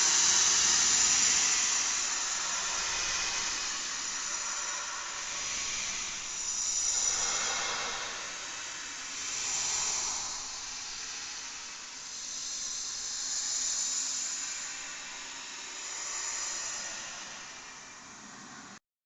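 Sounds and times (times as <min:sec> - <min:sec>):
hissing in slow waves: 0:00.0 - 0:18.8.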